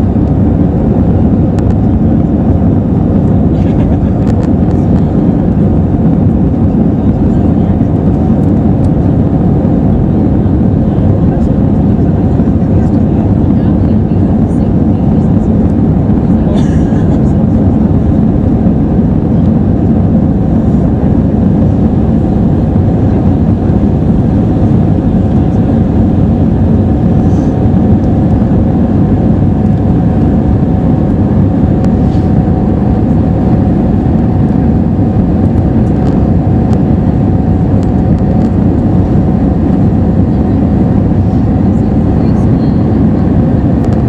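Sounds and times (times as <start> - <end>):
airplane cabin drone: 0.0 - 44.0.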